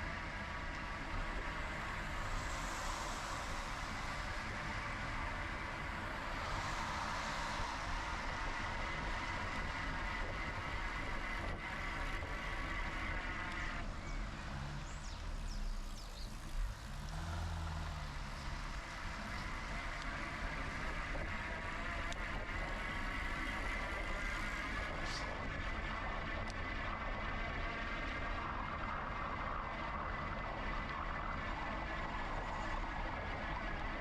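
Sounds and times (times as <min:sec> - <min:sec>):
faint steady whine: 0:00.0 - 0:34.0
low hum: 0:00.0 - 0:34.0
wind and tyre rush: 0:00.0 - 0:34.0.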